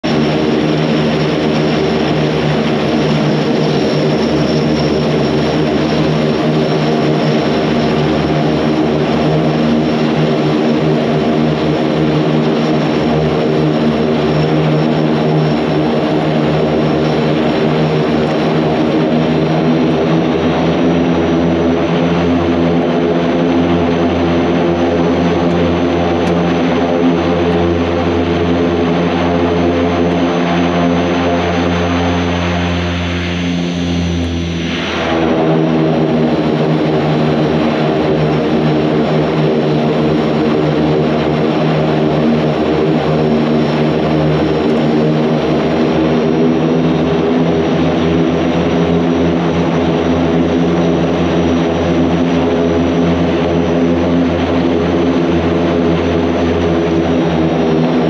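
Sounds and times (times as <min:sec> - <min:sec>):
high turbine whine: 0:00.0 - 0:58.0
propeller drone: 0:00.0 - 0:58.0.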